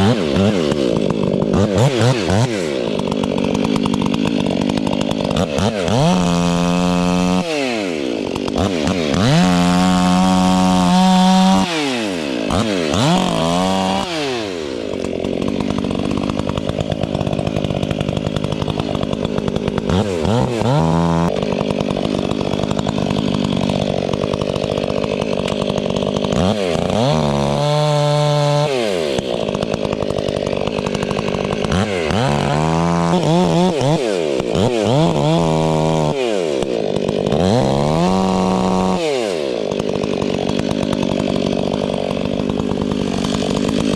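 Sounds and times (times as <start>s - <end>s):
chainsaw engine revving: 0.0s - 43.9s.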